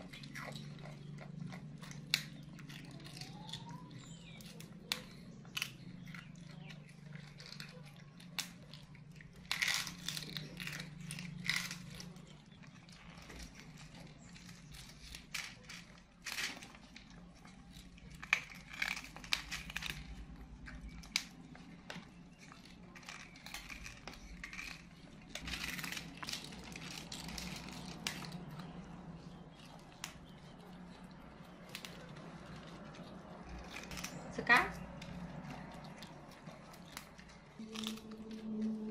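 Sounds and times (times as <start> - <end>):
paper crinkling and rustling: 2.1 - 38.9.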